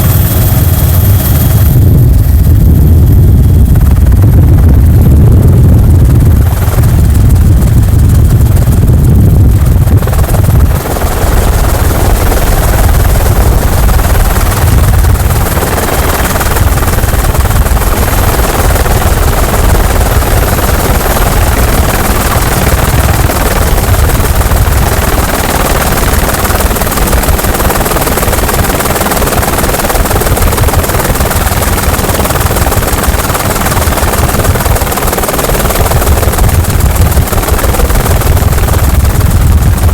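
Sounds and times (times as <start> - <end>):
helicopter rotor chop: 0.0 - 39.9.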